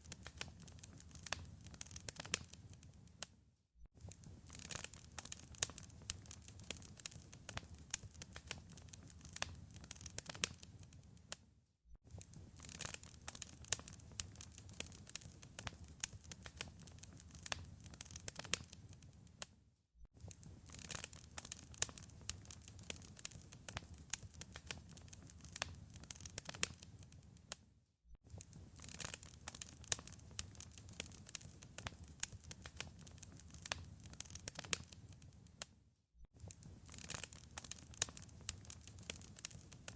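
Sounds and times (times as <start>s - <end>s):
wood fire crackling and popping: 0.0s - 3.0s, 4.0s - 11.4s, 12.1s - 19.5s, 20.2s - 27.6s, 28.3s - 35.7s, 36.4s - 39.9s.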